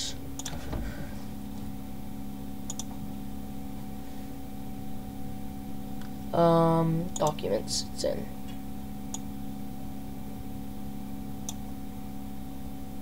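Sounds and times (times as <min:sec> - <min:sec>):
electrical hum and hiss: 0:00.0 - 0:13.0.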